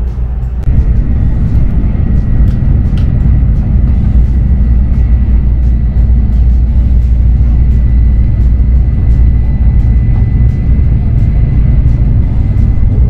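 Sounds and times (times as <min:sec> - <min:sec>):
thin steady whine: 0:00.0 - 0:13.0
train rumbling at speed: 0:00.0 - 0:13.0.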